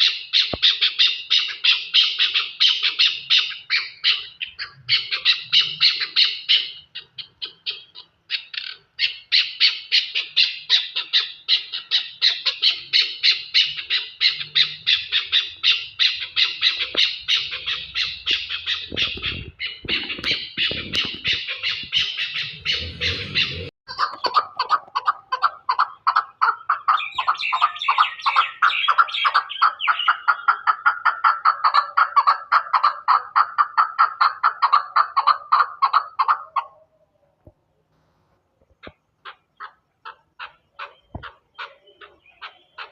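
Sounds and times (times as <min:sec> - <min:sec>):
birds calling harshly: 0:00.0 - 0:37.0, 0:38.6 - 0:42.9.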